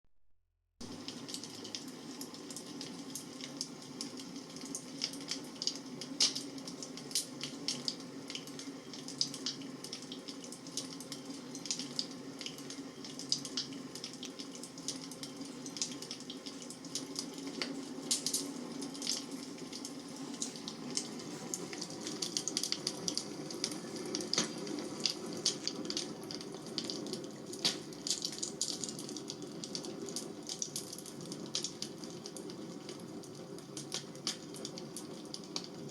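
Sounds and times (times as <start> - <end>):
bonfire crackling and popping: 1.0 - 35.9.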